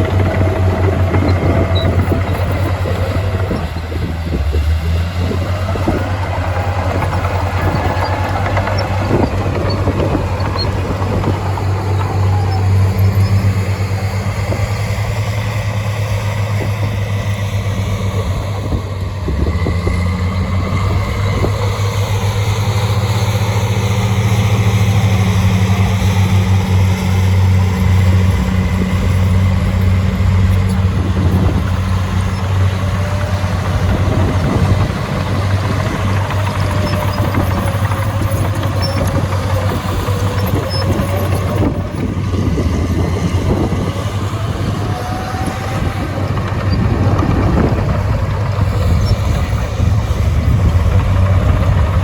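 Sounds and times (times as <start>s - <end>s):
engine knocks: 0.0s - 52.0s
heavy diesel engine rumbling: 0.0s - 52.0s.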